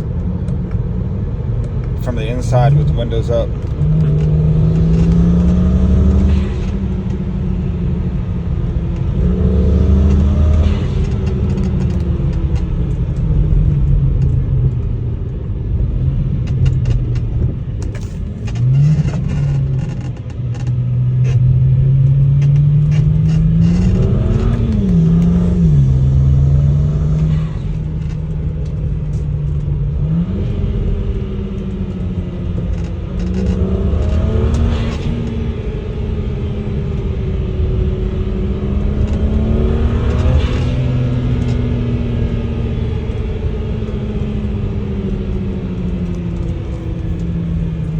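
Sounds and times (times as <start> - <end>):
suspension clicking and creaking: 0.0 - 7.3, 8.8 - 36.1, 36.8 - 47.9
car engine accelerating: 0.0 - 47.9.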